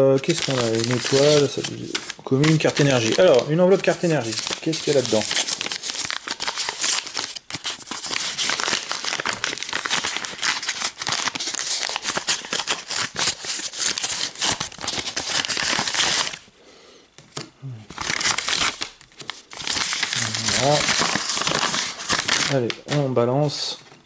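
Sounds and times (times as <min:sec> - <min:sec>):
paper envelope crinkling: 0:00.0 - 0:16.5, 0:17.3 - 0:23.9.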